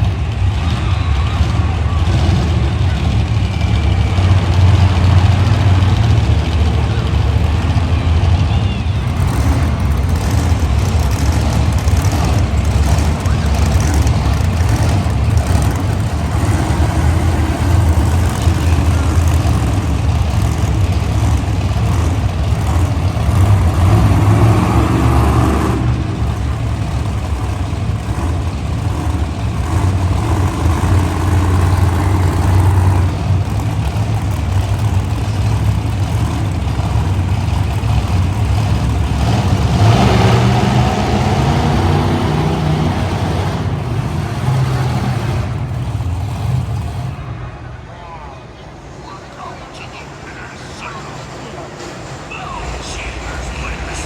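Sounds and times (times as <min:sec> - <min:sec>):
monster truck engines roaring: 0:00.0 - 0:54.0.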